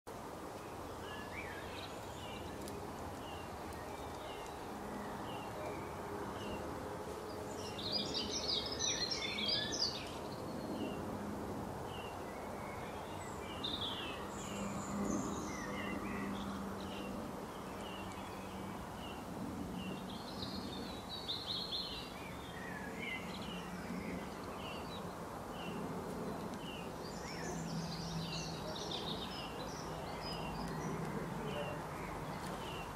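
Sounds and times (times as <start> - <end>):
birds chirping: 0.5 - 11.2, 11.8 - 32.9
bursts of rapid birdsong: 0.6 - 32.9.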